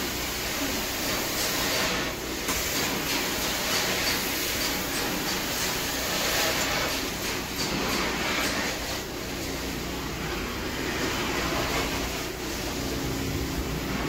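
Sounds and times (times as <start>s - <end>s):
carpet extraction machine hissing: 0.0s - 14.0s.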